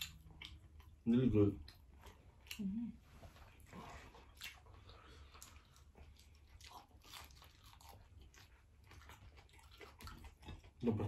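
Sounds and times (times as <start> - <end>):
crunching and chewing food: 0.0 - 11.0.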